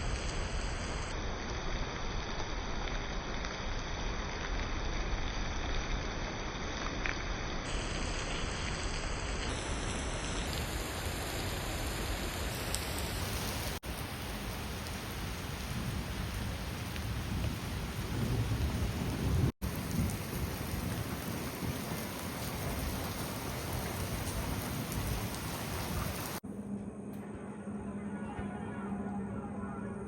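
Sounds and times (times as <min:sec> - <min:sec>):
steady rain falling: 0:00.0 - 0:26.4.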